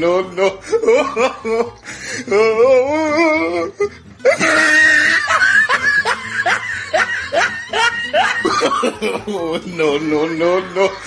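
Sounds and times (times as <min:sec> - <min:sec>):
loud laughter: 0:00.3 - 0:11.0.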